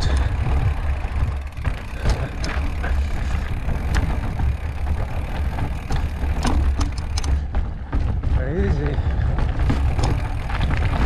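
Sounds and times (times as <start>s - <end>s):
bike clicks and rattles: 0.0s - 11.0s.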